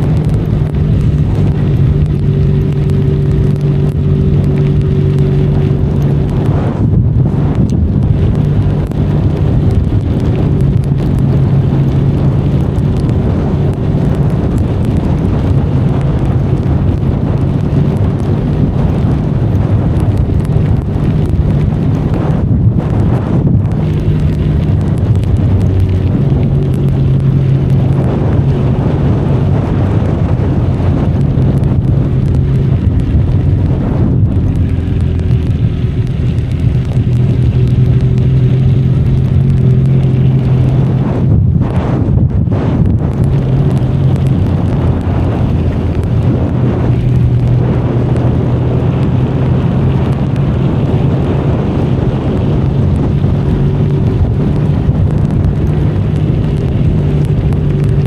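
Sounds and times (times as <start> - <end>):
motorcycle engine cruising: 0.0 - 58.0
rain: 0.0 - 58.0
wind on microphone: 0.0 - 58.0.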